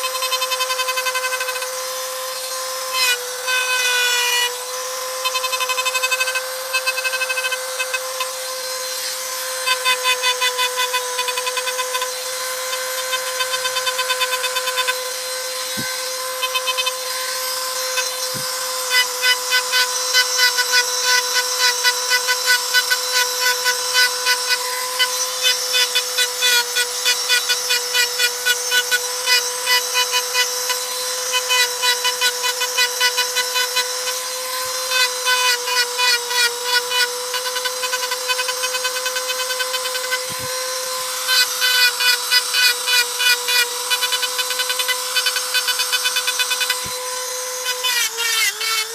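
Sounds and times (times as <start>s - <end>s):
rotary tool whining: 0.0s - 48.9s.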